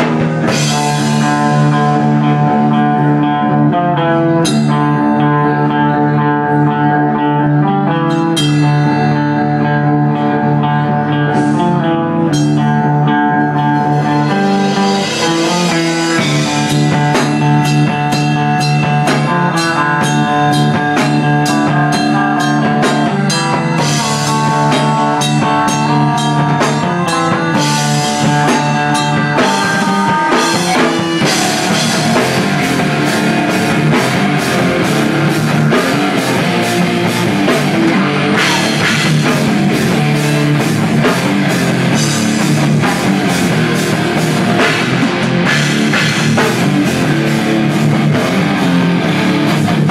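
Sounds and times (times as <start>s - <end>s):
drum kit beat: 0.0s - 5.7s, 7.6s - 10.0s, 11.3s - 49.9s
electric guitars: 0.0s - 49.9s.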